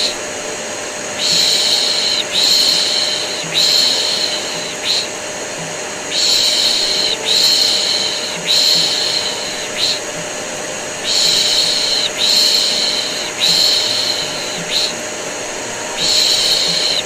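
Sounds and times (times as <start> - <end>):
vacuum cleaner whoosh and hum: 0.0 - 17.0.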